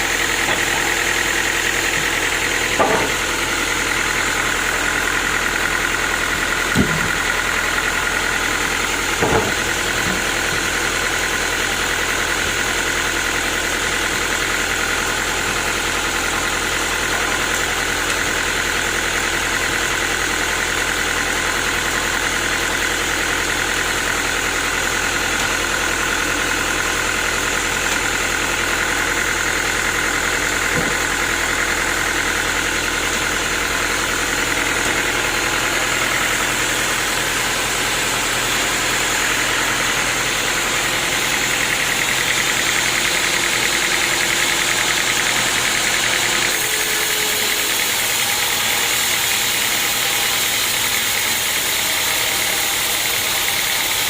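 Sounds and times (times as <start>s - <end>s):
sawmill saw whirring: 0.0s - 54.0s.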